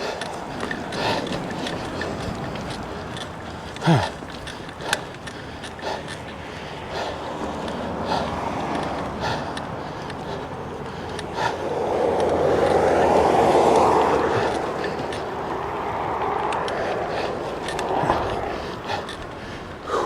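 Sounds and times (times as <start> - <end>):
bike tyres rumbling on trail: 0.0 - 20.0.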